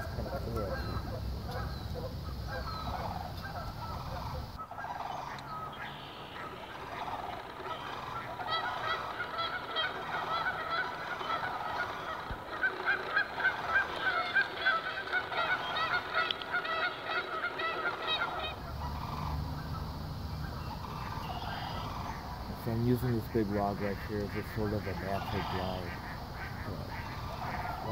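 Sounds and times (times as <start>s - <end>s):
geese honking: 0.0s - 27.9s.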